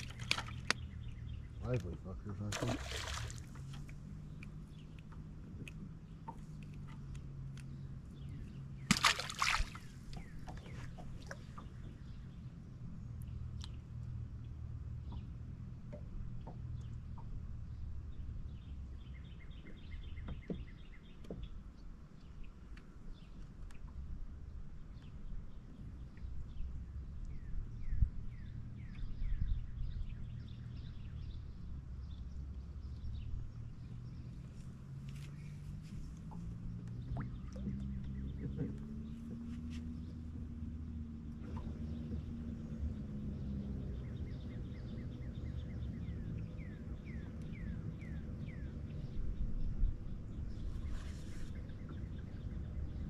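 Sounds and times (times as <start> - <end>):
songbird chirping: 0.0 - 15.4, 24.9 - 53.0.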